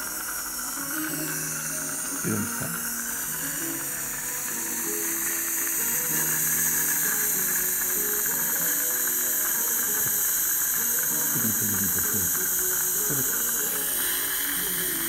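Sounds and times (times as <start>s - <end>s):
saliva ejector suction hiss: 0.0s - 15.0s.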